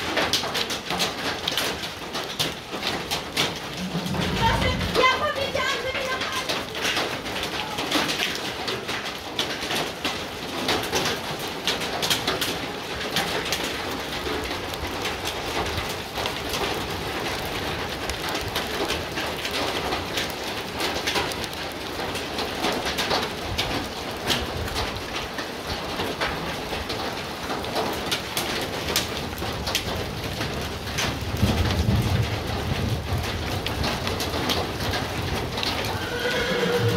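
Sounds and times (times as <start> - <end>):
rain and hail pattering: 0.0 - 36.9.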